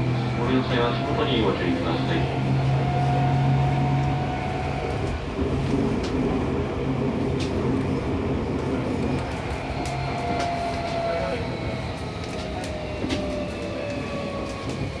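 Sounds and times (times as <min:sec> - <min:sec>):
inverter whine: 0:00.0 - 0:15.0
traction motors humming: 0:00.0 - 0:15.0.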